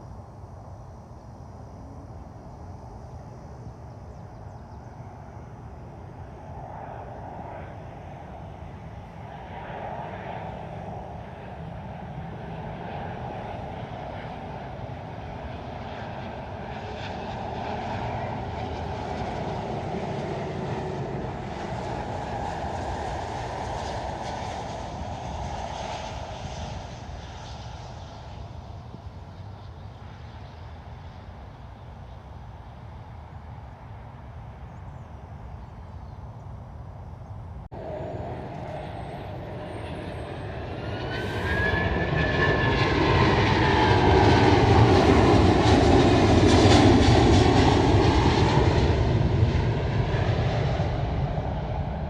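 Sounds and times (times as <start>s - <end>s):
jet engines passing by: 0.0s - 52.0s.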